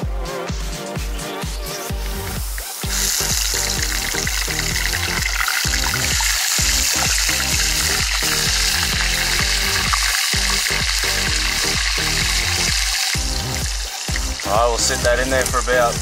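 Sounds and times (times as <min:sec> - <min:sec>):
background music: 0:00.0 - 0:16.0
fish sizzling in hot oil: 0:02.0 - 0:16.0.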